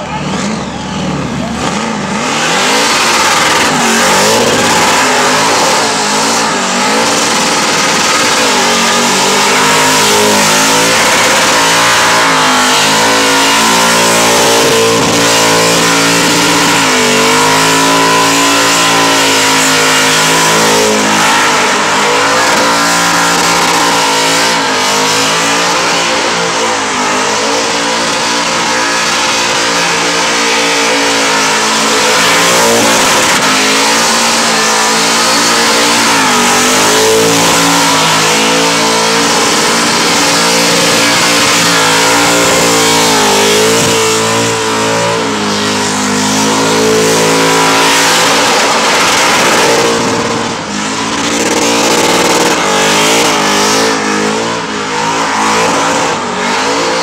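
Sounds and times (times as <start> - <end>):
car engine revving: 0.0 - 57.0
tyres spinning on asphalt: 0.0 - 57.0.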